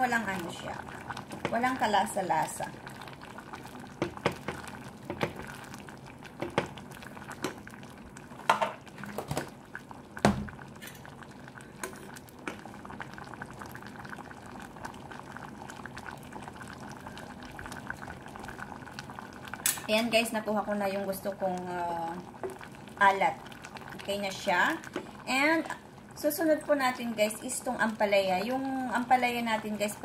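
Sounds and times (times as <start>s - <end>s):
soup bubbling in a pot: 0.0s - 30.0s.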